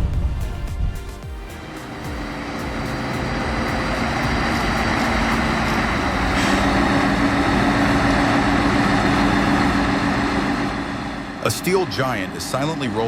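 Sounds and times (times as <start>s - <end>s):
heavy truck engine drone: 0.0s - 13.0s.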